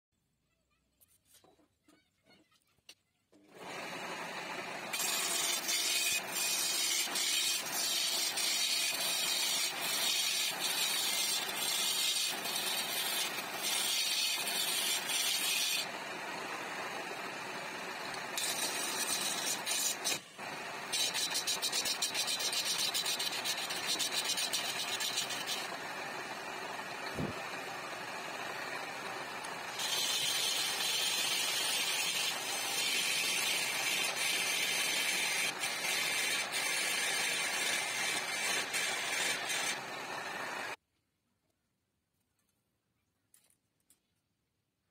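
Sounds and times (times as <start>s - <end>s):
chisel cutting wood: 3.6s - 40.8s
wood lathe running: 3.6s - 40.8s.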